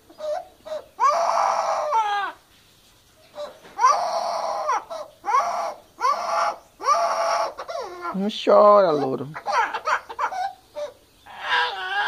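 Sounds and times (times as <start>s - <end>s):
parrot imitating child crying: 0.2s - 2.4s, 3.4s - 12.0s.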